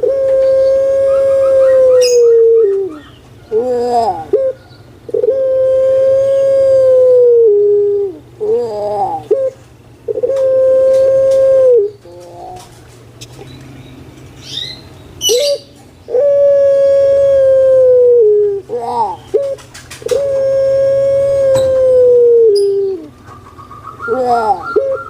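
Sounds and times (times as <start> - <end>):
dove rolling wavering notes: 0.0 - 12.6, 14.4 - 25.0
dove cooing: 0.0 - 13.5, 15.2 - 25.0.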